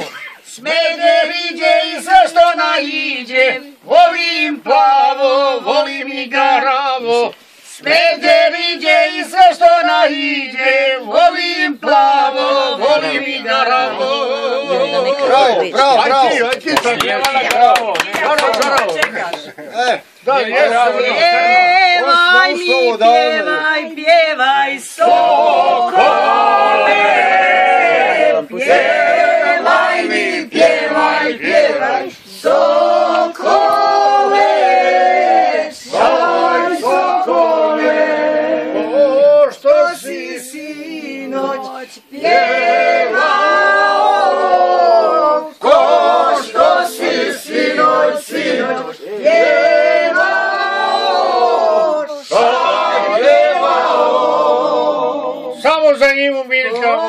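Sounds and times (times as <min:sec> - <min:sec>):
group singing in unison: 0:00.0 - 0:17.7, 0:20.3 - 0:57.0.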